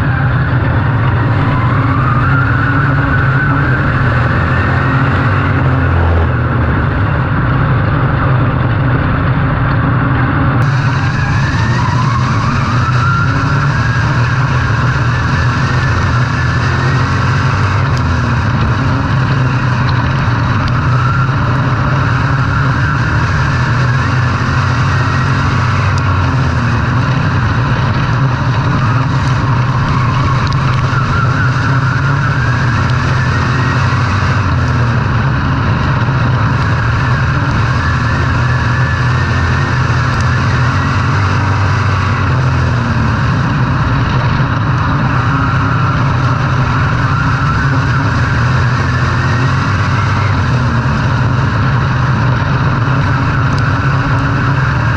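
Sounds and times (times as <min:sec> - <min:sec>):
race car engines revving: 0:00.0 - 0:54.9.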